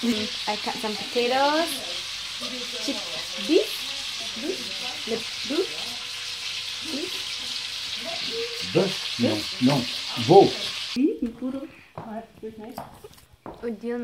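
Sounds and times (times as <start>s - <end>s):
food sizzling in a pan: 0.0s - 11.7s.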